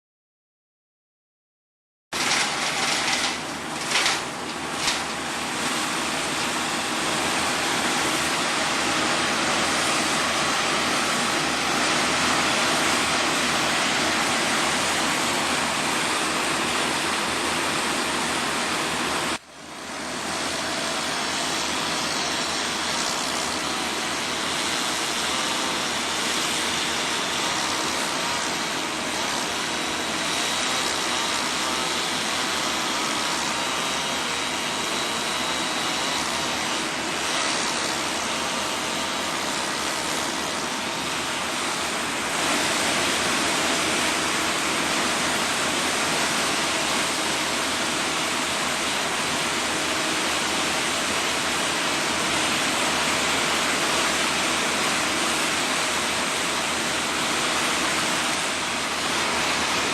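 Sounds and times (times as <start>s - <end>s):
engine-driven machinery running: 2.2s - 59.9s.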